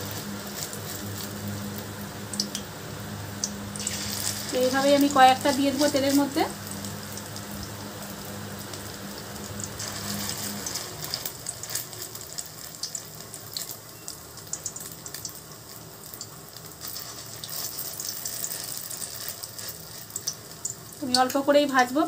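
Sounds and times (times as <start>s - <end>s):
fritters sizzling in oil: 0.0s - 22.0s.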